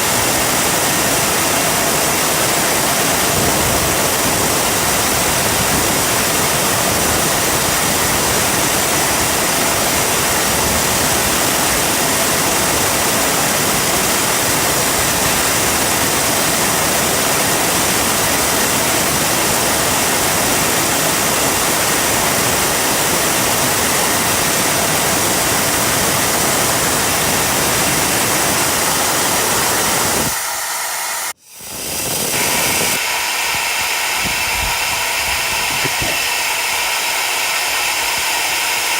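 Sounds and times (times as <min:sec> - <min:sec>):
jet engine roaring: 0:00.0 - 0:38.9.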